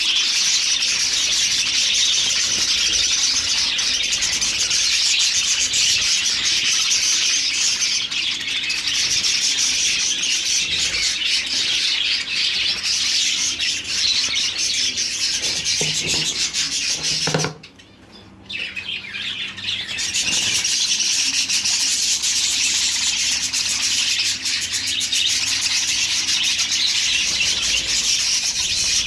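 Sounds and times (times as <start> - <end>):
small parrots twittering: 0.8 - 29.0.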